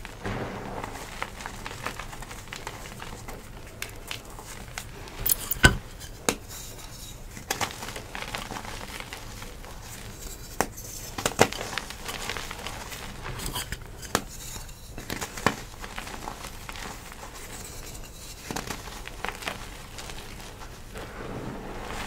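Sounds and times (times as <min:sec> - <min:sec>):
gritty chalk powder rustle: 0:00.1 - 0:22.0
chalk crunching and cracking: 0:00.2 - 0:22.0.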